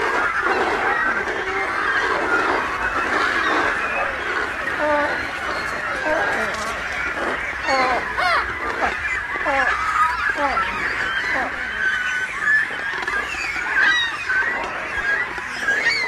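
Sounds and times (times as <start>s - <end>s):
flock of water birds calling: 0.0s - 16.0s.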